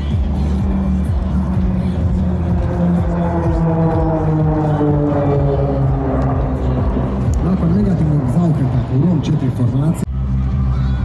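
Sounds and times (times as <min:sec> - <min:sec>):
propeller planes flying over: 0:00.0 - 0:11.0.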